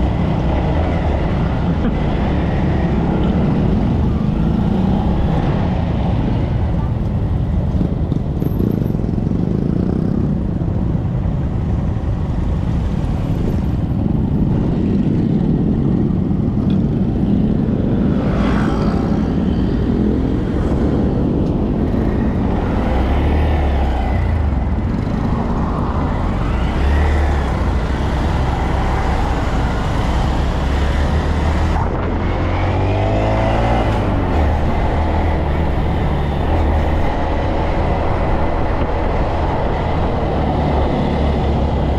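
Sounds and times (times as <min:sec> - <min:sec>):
motorcycle engines running: 0:00.0 - 0:41.9.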